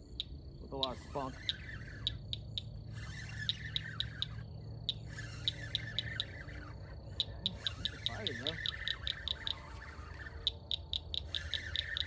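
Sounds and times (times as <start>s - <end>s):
warbling bird calls: 0.0s - 12.0s.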